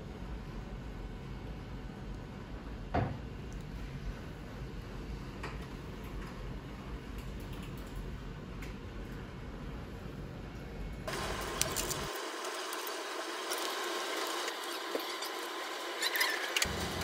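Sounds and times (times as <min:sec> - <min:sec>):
room noise: 0:00.0 - 0:17.0.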